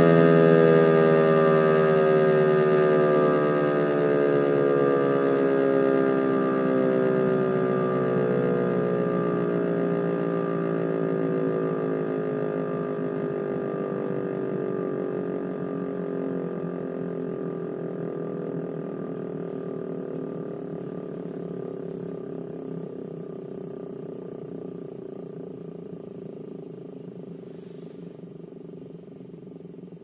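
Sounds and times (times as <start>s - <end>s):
electromechanical siren winding down: 0.0s - 27.3s.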